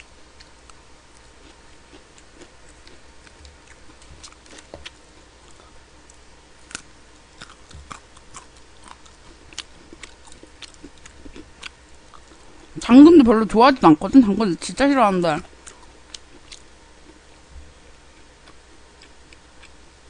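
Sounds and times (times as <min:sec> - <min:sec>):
chewing food: 0:00.4 - 0:12.8, 0:15.4 - 0:17.4, 0:18.1 - 0:19.9.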